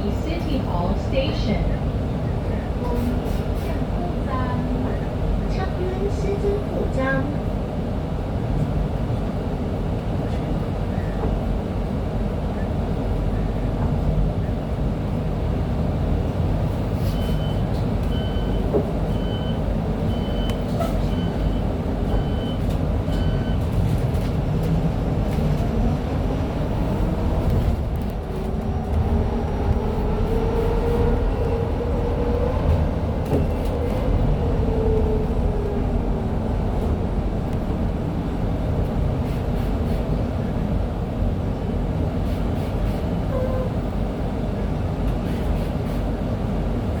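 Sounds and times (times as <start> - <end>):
electric bus rumbling: 0.0 - 47.0.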